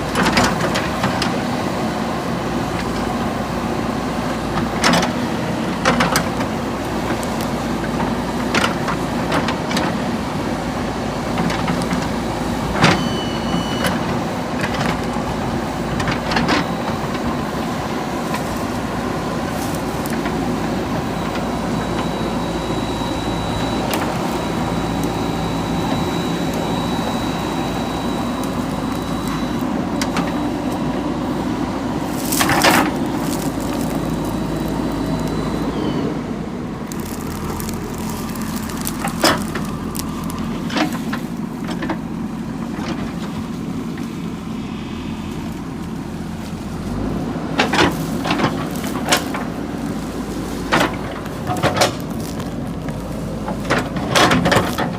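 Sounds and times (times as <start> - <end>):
backhoe diesel engine running: 0.0 - 54.9.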